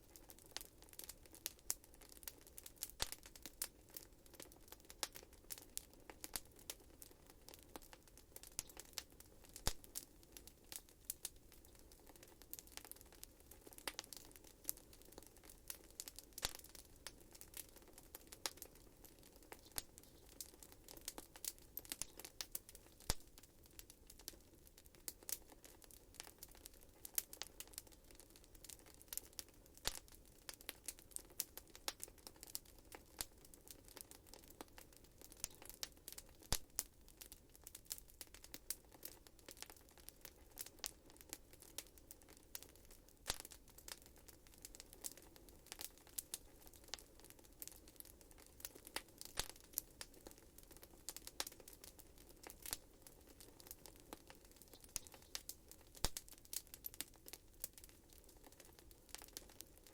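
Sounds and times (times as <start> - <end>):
faint low hiss: 0.0 - 59.9
wood fire crackling: 0.0 - 59.9.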